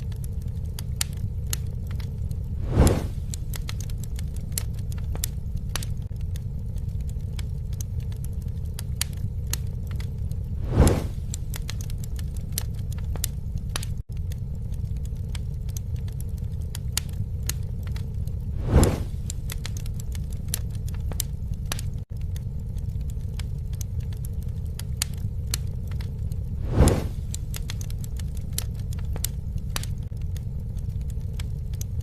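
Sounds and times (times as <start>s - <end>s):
campfire crackling: 0.0s - 32.0s
low rumble of flames: 0.0s - 32.0s
whooshing swell of fire: 0.0s - 32.0s.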